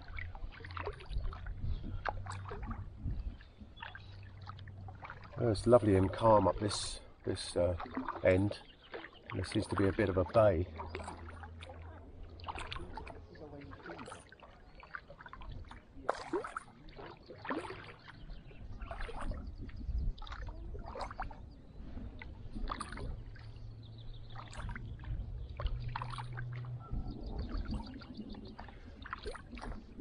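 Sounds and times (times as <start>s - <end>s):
water dripping off paddle: 0.0s - 21.5s, 22.1s - 30.0s
kayak paddle splashing: 0.0s - 30.0s.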